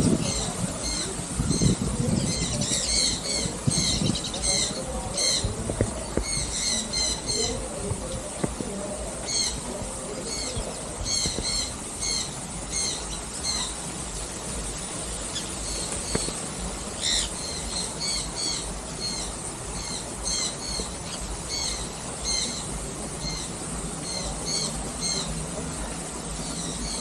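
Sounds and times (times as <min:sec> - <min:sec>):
birds chirping: 0:00.0 - 0:27.0
low steady rumble: 0:00.0 - 0:27.0.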